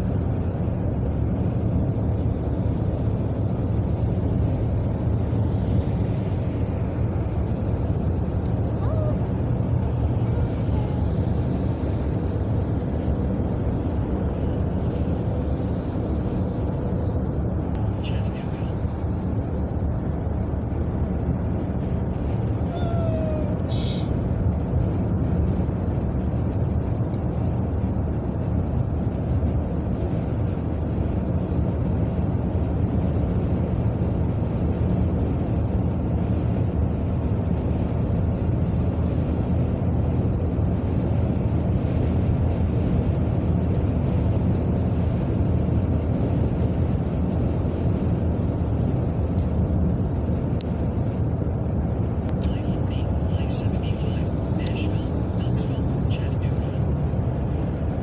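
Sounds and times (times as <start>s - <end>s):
car cruising road noise: 0.0s - 58.0s.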